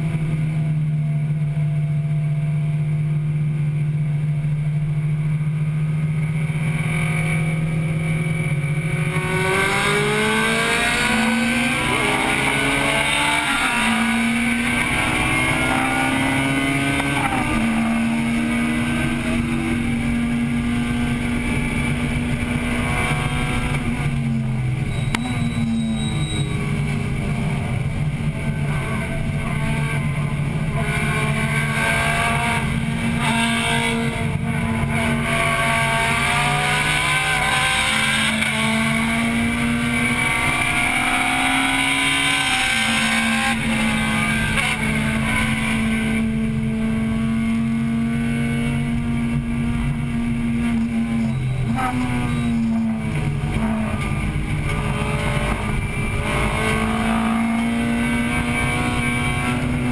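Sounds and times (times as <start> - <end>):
car engine revving high: 2.2 - 59.9.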